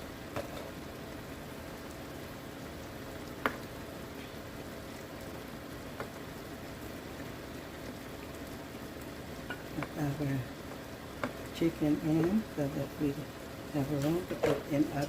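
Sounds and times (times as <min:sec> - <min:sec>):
soup simmering and bubbling: 0:00.0 - 0:15.0.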